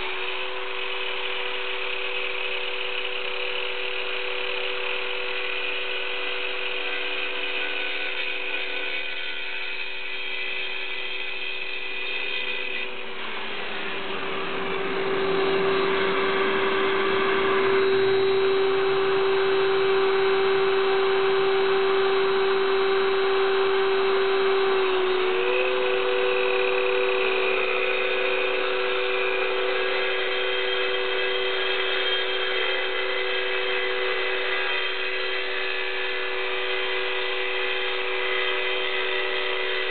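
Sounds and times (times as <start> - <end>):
circular saw cutting concrete: 0.0 - 39.9.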